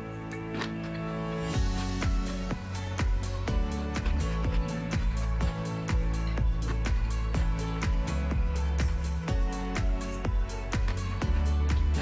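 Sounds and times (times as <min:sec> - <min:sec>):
held chords: 0:00.0 - 0:12.0
light percussion: 0:00.0 - 0:12.0
low drum beat: 0:01.6 - 0:12.0.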